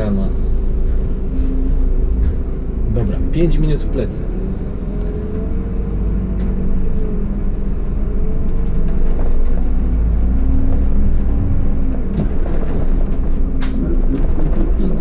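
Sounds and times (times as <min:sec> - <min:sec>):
bus engine and road rumble: 0:00.0 - 0:15.0
faint whine: 0:00.0 - 0:15.0.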